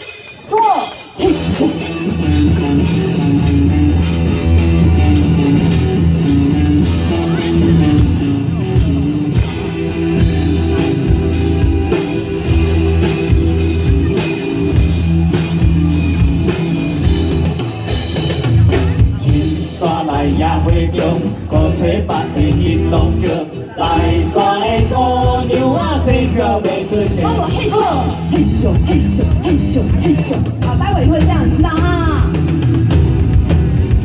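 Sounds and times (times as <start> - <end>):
live band playing: 0.0 - 34.0.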